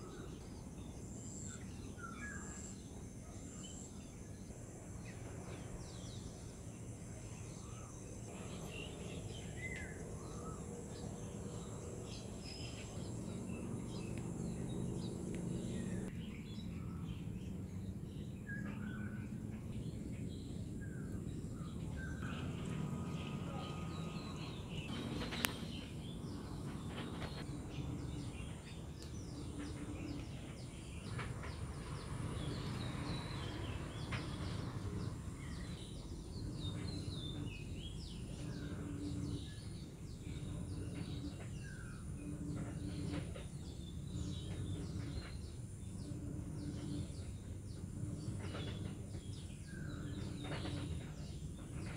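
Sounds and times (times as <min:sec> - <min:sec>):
small birds chirping: 0:00.0 - 0:51.9
low background rumble: 0:03.7 - 0:51.9.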